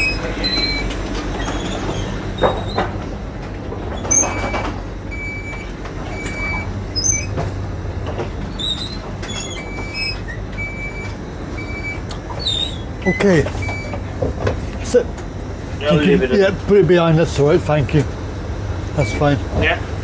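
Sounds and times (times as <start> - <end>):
train rumbling at platform: 0.0 - 20.0.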